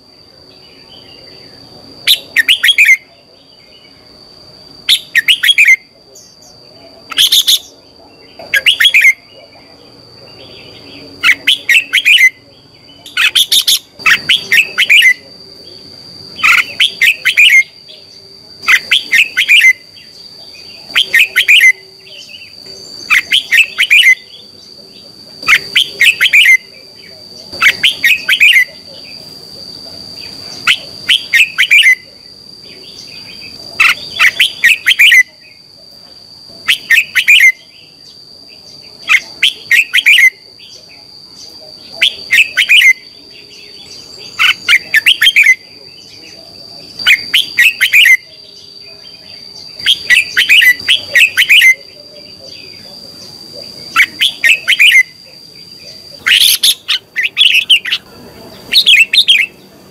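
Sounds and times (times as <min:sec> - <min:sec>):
bird singing whistled notes: 0:00.6 - 0:04.1, 0:04.8 - 0:09.4, 0:10.4 - 0:24.7, 0:25.4 - 0:29.3, 0:30.2 - 0:35.6, 0:36.6 - 0:59.6.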